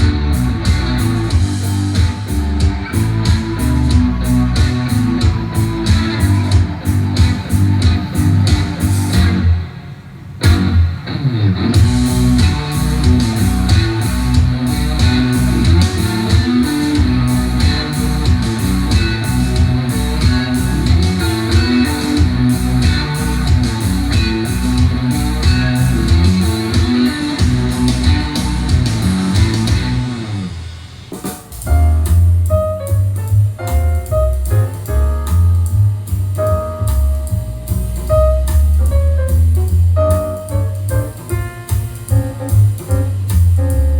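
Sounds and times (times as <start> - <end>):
piano with heavy bass line: 0.0 - 9.7, 10.4 - 43.9
music with guitar and drums: 0.0 - 43.9.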